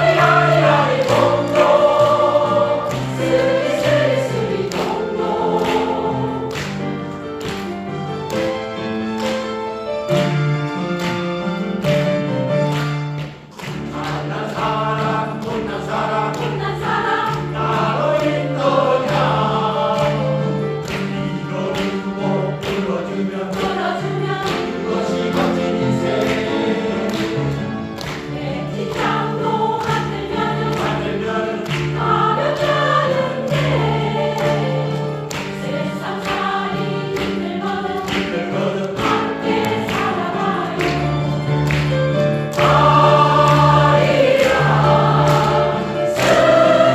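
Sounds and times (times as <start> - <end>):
choir singing: 0.0 - 7.4, 13.8 - 46.9.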